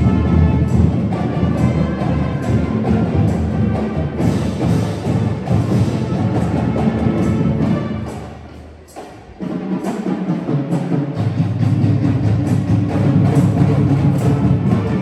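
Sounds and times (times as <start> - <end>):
drumline playing cadence: 0.0 - 15.0.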